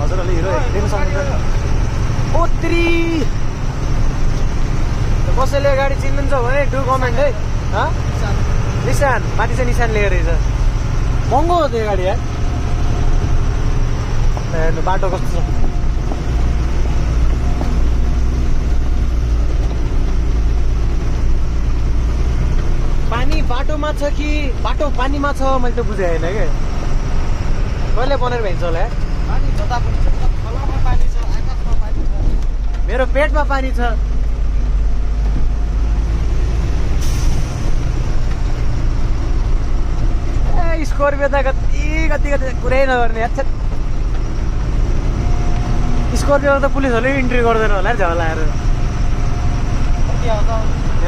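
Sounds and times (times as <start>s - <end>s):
truck engine droning: 0.0s - 51.0s.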